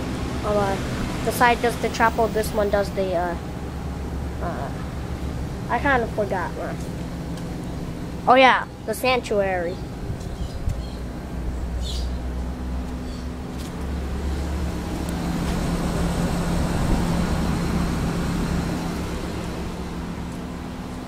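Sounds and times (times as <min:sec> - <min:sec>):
compressor hum: 0:00.0 - 0:21.0
condenser fan rushing: 0:00.0 - 0:21.0.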